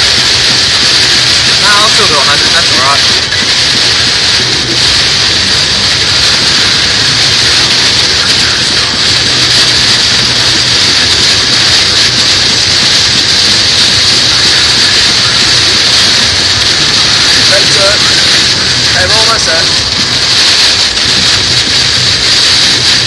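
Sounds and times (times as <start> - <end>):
car engine and tyre hum: 0.0 - 1.9, 2.8 - 23.0
heavy rain on car roof: 0.0 - 23.0.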